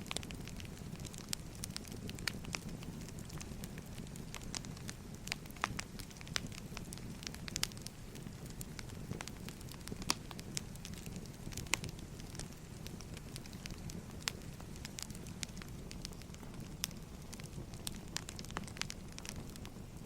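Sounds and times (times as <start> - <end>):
firewood burning and crackling: 0.0 - 20.0.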